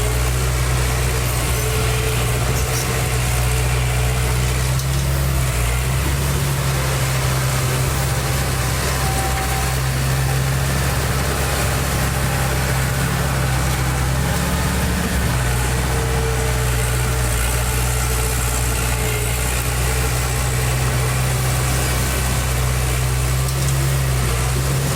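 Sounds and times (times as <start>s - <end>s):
heavy diesel engine humming: 0.0s - 24.9s.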